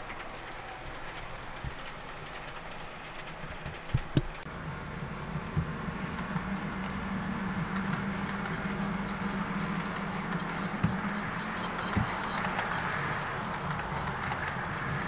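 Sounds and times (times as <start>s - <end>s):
light regular ticking: 0.0s - 15.0s
model train wheels rumbling: 0.0s - 15.0s.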